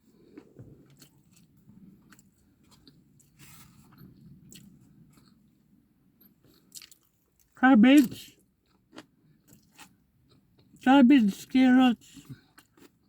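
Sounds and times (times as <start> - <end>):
faint chewing of food: 0.0 - 7.6, 8.4 - 10.9, 12.1 - 13.0.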